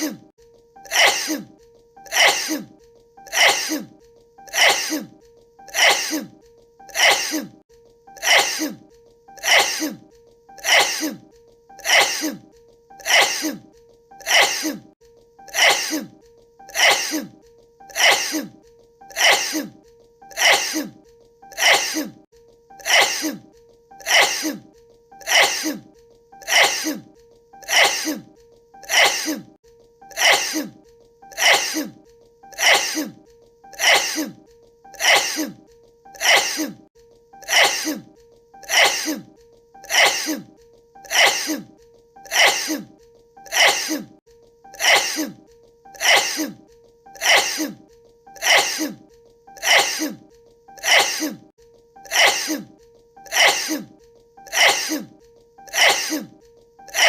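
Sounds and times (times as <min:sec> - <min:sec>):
person sneezing: 0:00.0 - 0:07.6, 0:08.2 - 0:14.9, 0:15.5 - 0:22.2, 0:22.8 - 0:57.0.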